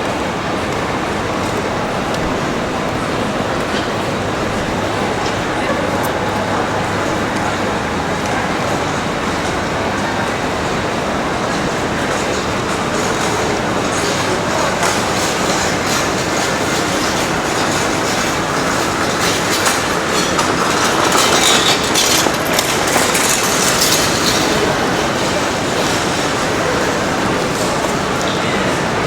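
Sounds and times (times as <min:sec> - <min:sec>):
train wheels clattering on rails: 0:00.0 - 0:29.0.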